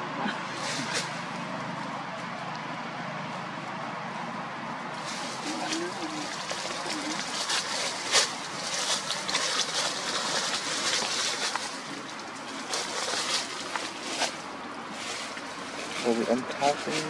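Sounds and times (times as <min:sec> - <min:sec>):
dry leaves rustling and crackling: 0:00.4 - 0:17.0.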